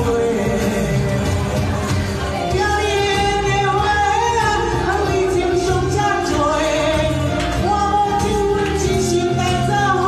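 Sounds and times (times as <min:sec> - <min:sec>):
backing music with bass beat: 0:00.0 - 0:10.0
woman singing into microphone: 0:00.0 - 0:10.0.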